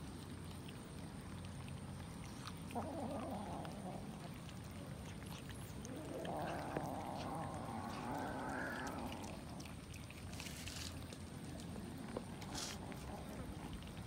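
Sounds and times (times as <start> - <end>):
cats chewing and smacking: 0.0 - 14.0.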